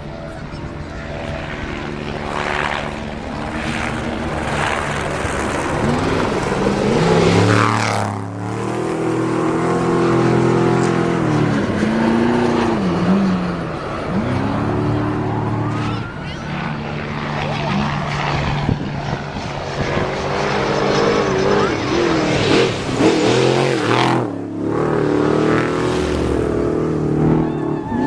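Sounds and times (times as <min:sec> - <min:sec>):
off-road race vehicle engines: 0:00.0 - 0:28.0.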